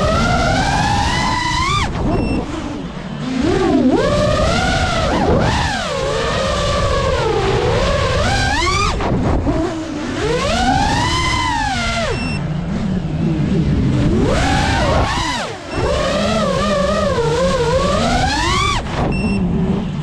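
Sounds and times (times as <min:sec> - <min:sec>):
drone motors whining: 0:00.0 - 0:20.0
wind rush: 0:00.0 - 0:20.0.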